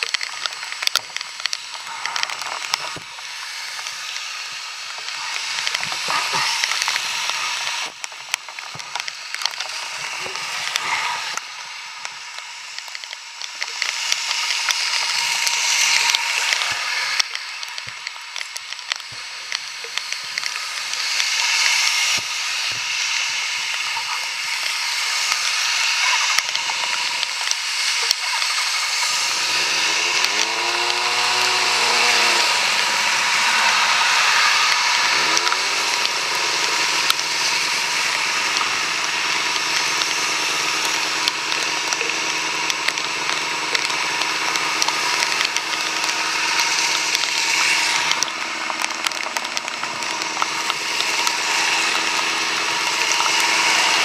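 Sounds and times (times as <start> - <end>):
taps and clicks: 0.0 - 29.3, 29.9 - 54.0
heavy rain hissing: 0.0 - 54.0
engine starting and revving: 8.9 - 54.0.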